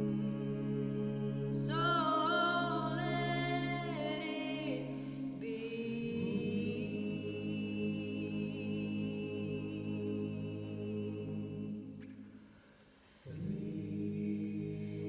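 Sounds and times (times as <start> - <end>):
low ambient drone: 0.0 - 12.1
choir-like held notes: 0.0 - 12.4, 13.0 - 15.0.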